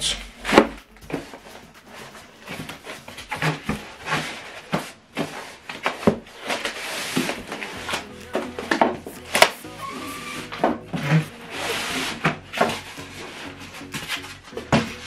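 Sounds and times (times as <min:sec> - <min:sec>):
foam scraping against cardboard: 0:00.4 - 0:08.0, 0:09.8 - 0:15.0.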